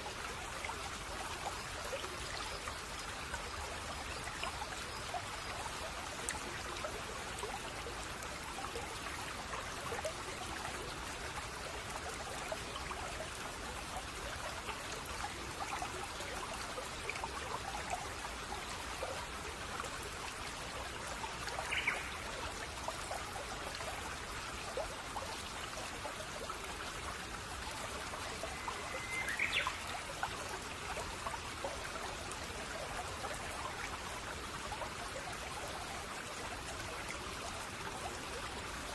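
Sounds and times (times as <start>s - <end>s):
brook babbling: 0.0s - 38.9s.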